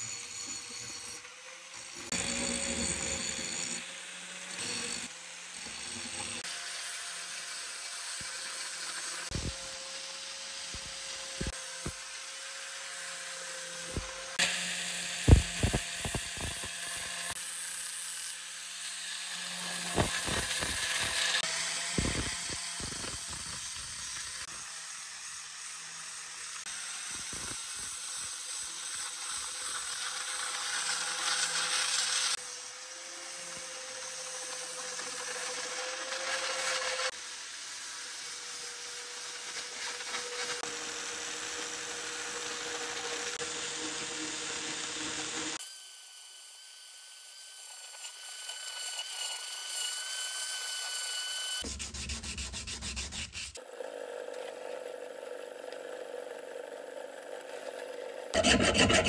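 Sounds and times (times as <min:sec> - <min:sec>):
angle grinder grinding steel: 0:00.0 - 0:53.6, 0:54.8 - 0:59.0.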